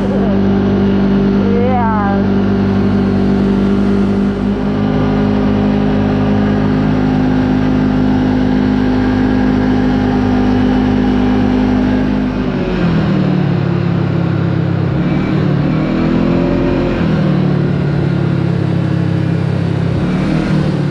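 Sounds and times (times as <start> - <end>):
utility vehicle engine running: 0.0 - 20.9.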